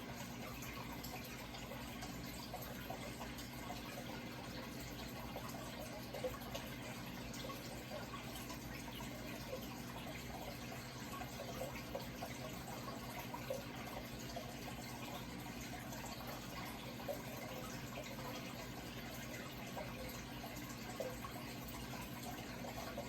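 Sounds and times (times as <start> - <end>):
low steady hum: 0.0 - 23.0
water trickling and splashing: 0.0 - 23.0.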